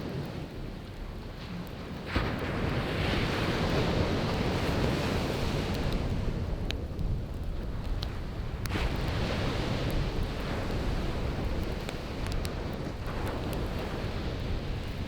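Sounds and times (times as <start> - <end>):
campfire crackling: 0.2 - 15.0.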